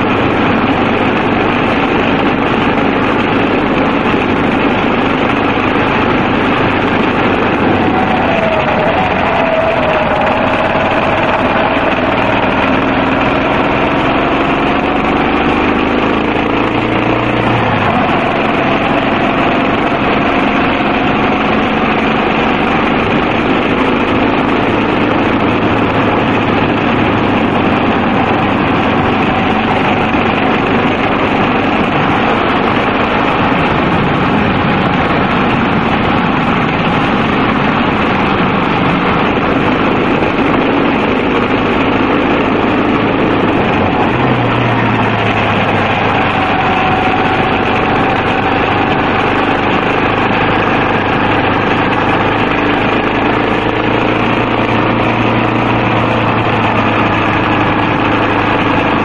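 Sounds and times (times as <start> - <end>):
motorcycle engine running: 0.0 - 59.0
steady rush of noise: 0.0 - 59.0.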